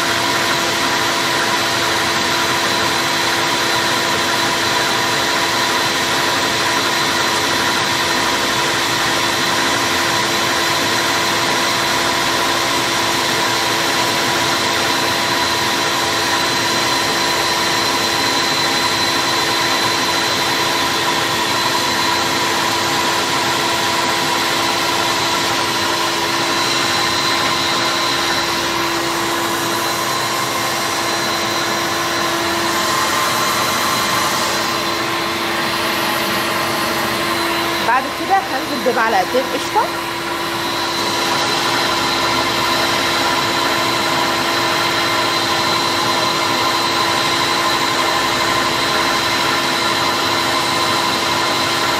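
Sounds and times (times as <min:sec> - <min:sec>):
stand mixer motor whining: 0:00.0 - 0:51.9.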